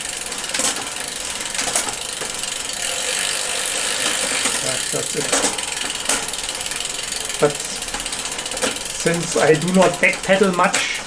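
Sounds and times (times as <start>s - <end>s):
bicycle freehub ratcheting: 0.0s - 11.0s
sharp drivetrain clicks: 0.0s - 11.0s.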